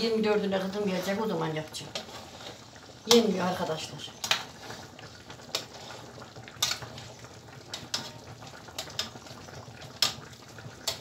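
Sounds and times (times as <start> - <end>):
syrup simmering sizzle: 0.0 - 11.0.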